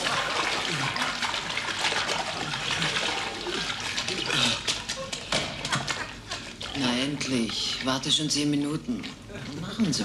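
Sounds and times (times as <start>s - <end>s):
water splashing and churning: 0.0s - 8.2s.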